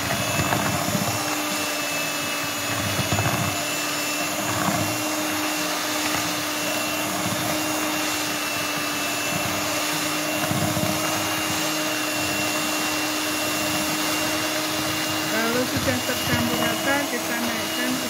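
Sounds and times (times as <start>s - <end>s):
electric hand mixer whirring: 0.0s - 18.0s.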